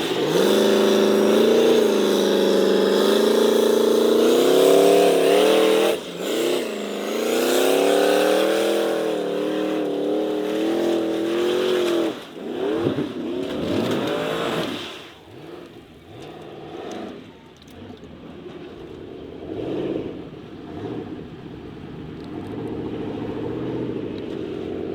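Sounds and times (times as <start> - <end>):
race car engine revving: 0.0 - 24.9.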